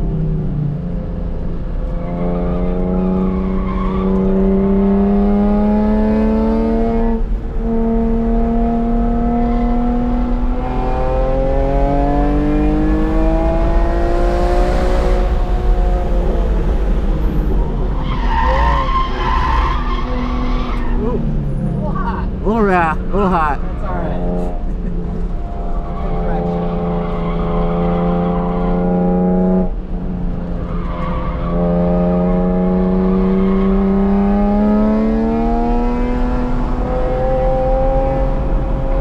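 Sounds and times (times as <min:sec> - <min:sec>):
car engine revving: 0:02.3 - 0:39.0.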